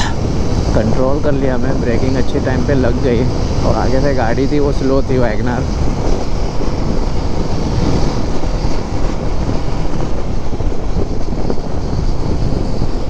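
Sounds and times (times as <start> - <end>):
motorcycle engine rumble: 0.0 - 13.0
wind rush: 0.0 - 13.0.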